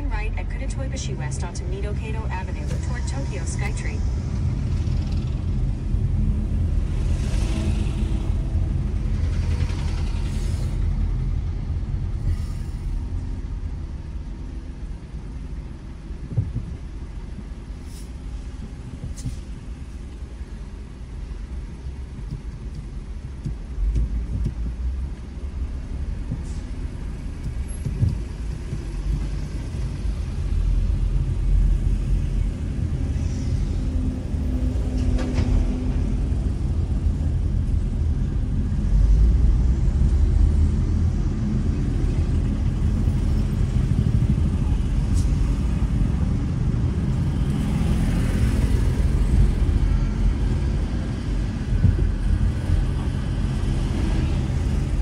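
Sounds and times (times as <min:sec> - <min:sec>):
car interior rumble: 0:00.0 - 0:47.5, 0:48.4 - 0:55.0.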